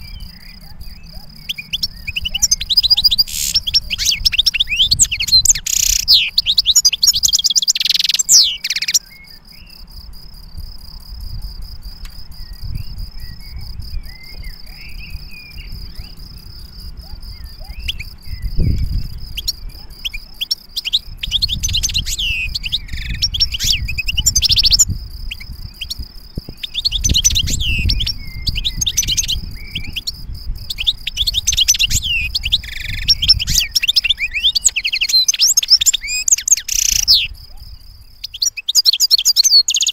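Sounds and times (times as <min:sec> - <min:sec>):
faint bird chirps: 0:00.0 - 0:10.0, 0:12.3 - 0:39.9
bird singing twittering phrases: 0:00.0 - 0:39.9.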